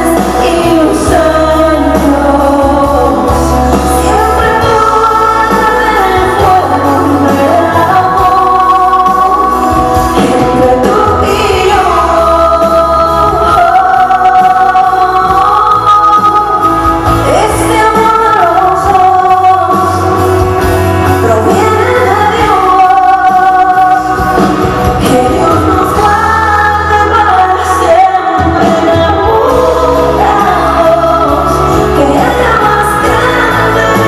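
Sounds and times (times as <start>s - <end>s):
amplified instrumental backing: 0.0s - 34.0s
woman singing into microphone: 0.0s - 34.0s.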